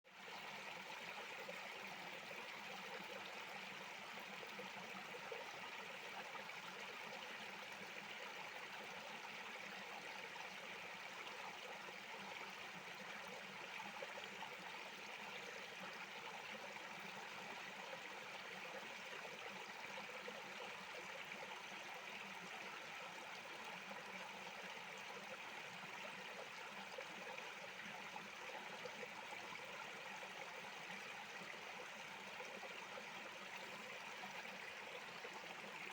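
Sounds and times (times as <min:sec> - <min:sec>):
creek flowing over stones: 0:00.1 - 0:35.9.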